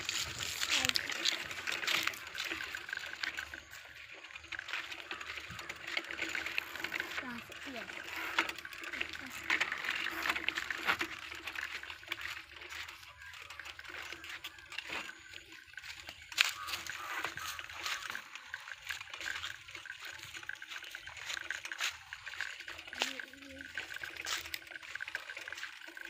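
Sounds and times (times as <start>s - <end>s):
bicycle tyres on dry leaves: 0.0s - 26.0s
footsteps on dry leaves: 0.0s - 26.0s.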